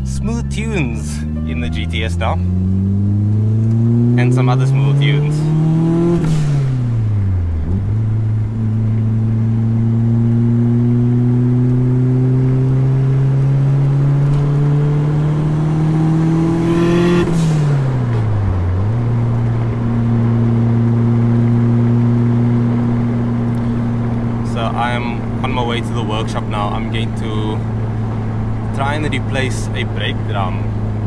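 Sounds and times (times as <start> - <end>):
car engine revving in gear: 0.0 - 31.0.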